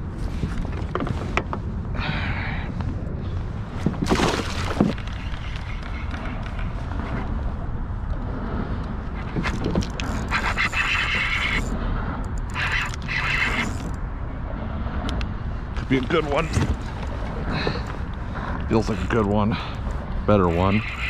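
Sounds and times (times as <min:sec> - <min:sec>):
water against a kayak: 0:00.0 - 0:21.0
wind rumbling on microphone: 0:00.0 - 0:21.0.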